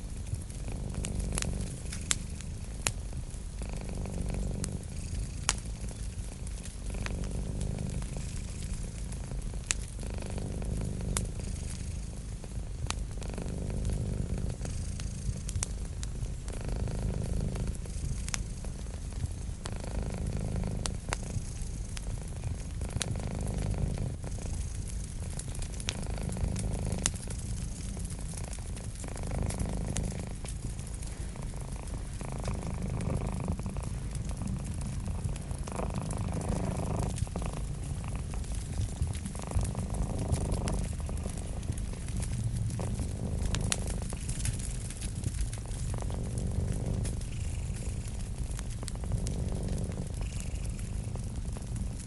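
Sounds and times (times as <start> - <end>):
cat purring: 0.0 - 52.0
wood fire crackling: 0.0 - 52.0.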